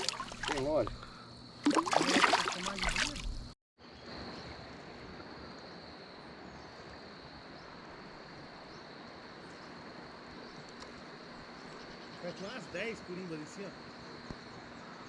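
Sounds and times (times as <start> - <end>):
flowing river water hiss: 0.0 - 15.0.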